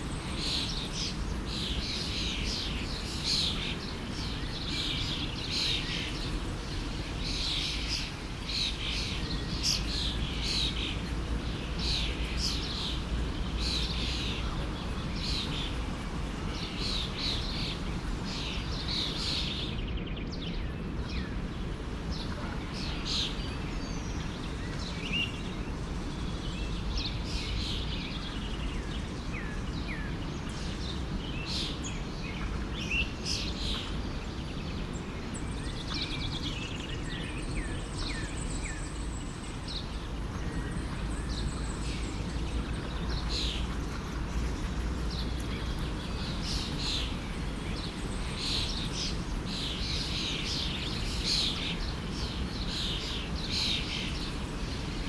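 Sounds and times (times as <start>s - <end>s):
forest stream rushing: 0.0s - 19.8s, 20.8s - 55.0s
songbirds chirping: 0.0s - 55.0s.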